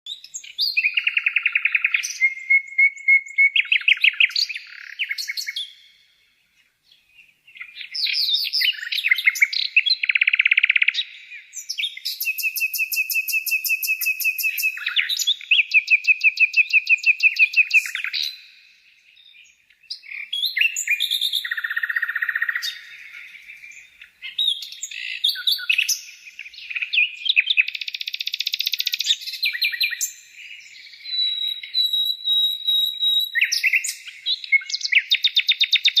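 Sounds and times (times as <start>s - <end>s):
songbird singing trills: 0.1s - 36.0s.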